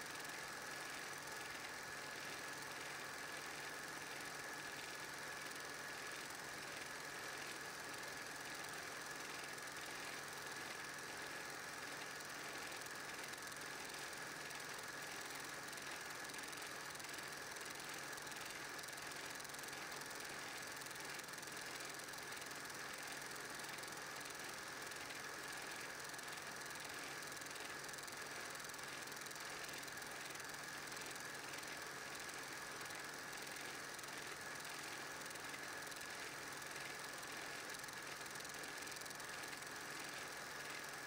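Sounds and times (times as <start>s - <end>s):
film projector running: 0.0s - 41.0s.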